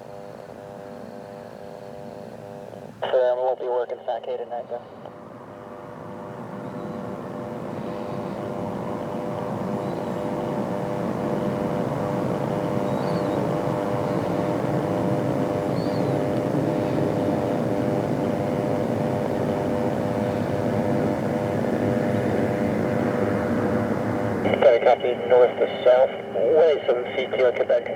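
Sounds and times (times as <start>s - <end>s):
aircraft engine rumble: 0.0s - 27.9s
steady hum of tones: 0.0s - 27.9s.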